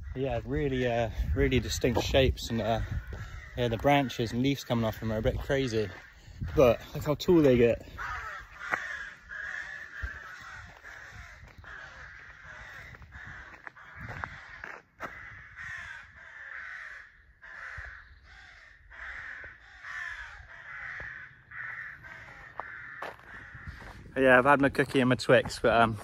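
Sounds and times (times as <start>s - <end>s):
crows cawing: 0.0s - 24.1s.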